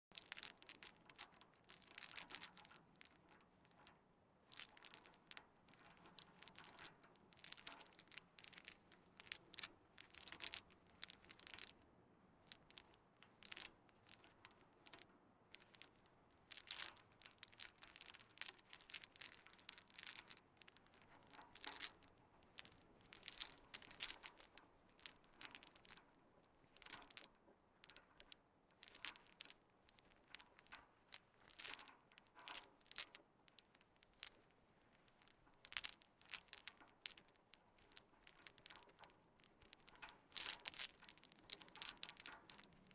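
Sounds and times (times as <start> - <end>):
metal chain links clinking: 0.2 - 11.7, 16.5 - 26.0, 26.8 - 30.8, 31.4 - 34.4, 35.1 - 42.9.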